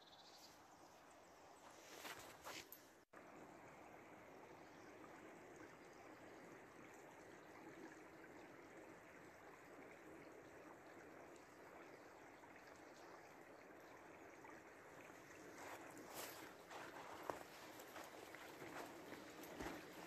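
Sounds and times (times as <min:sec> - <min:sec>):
river flowing: 0:01.8 - 0:20.0.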